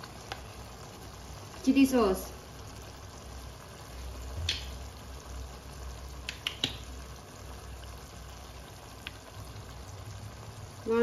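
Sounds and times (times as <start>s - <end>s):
food simmering in a wok: 0.0s - 11.0s.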